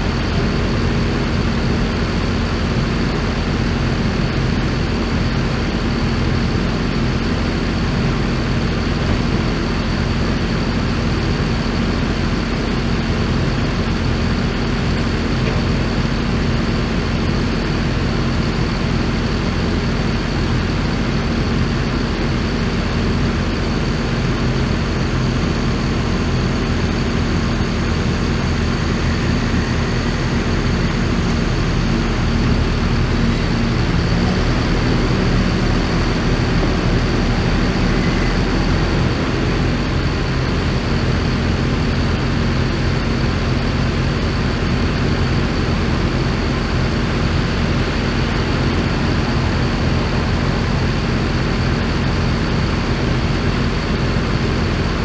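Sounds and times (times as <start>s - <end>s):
heavy vehicle engine idling: 0.0s - 55.0s
high whine: 0.0s - 55.0s.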